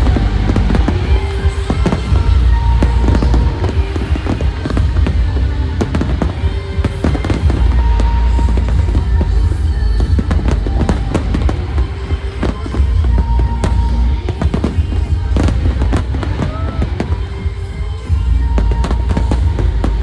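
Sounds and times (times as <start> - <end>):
fireworks bursting and crackling: 0.0 - 20.0
loud music: 0.0 - 20.0.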